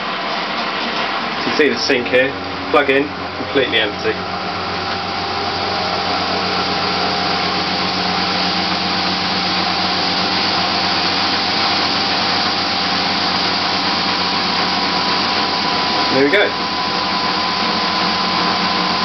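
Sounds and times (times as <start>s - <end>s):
spin dryer running: 0.0s - 19.0s.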